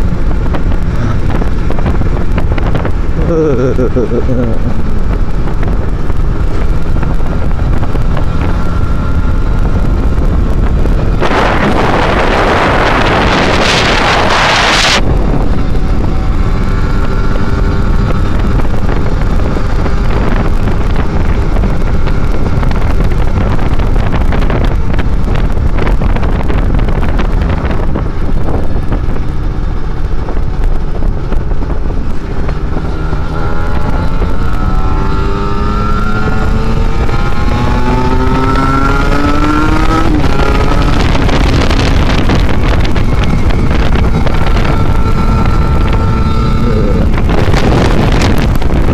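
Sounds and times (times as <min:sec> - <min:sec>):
motorcycle engine: 0:00.0 - 0:48.9
wind noise on microphone: 0:00.0 - 0:48.9.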